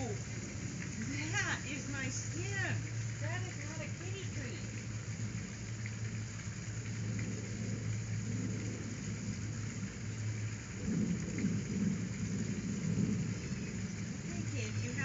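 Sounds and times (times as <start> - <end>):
hissing background noise: 0.0 - 15.0
low rumble: 0.0 - 15.0.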